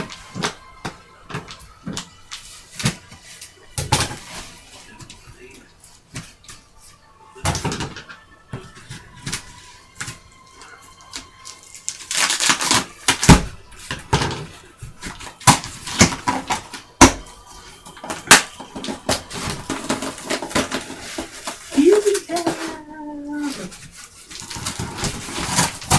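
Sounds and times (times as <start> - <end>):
cardboard rustling: 0.0 - 6.6, 7.5 - 25.9.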